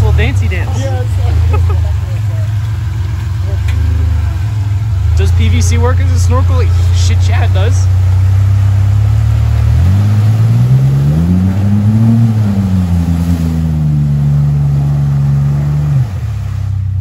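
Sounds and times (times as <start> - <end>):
engine idling: 0.0 - 17.0
pickup engine revving: 0.0 - 17.0.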